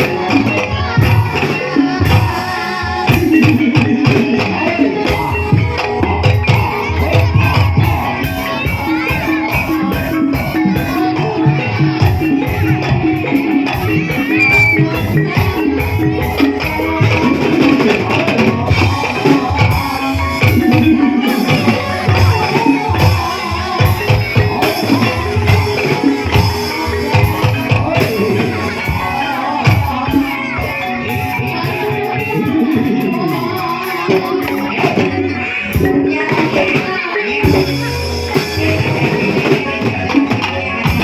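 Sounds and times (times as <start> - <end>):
drums and percussion beat: 0.0 - 41.0
sustained pitched instrument tones: 0.0 - 41.0.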